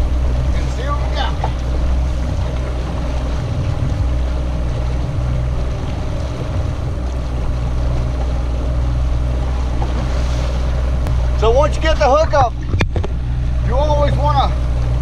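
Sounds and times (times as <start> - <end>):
outboard motor running: 0.0 - 15.0
wind and water rushing: 0.0 - 15.0.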